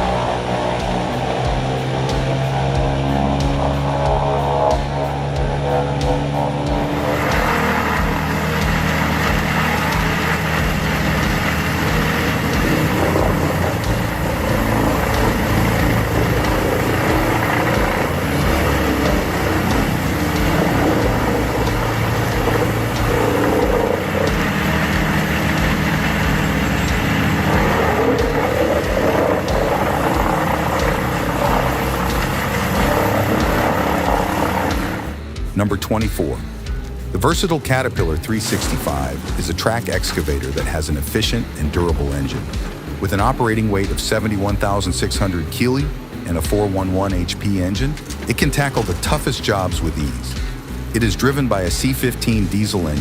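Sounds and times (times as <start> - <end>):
wood chipper engine running: 0.0 - 53.0.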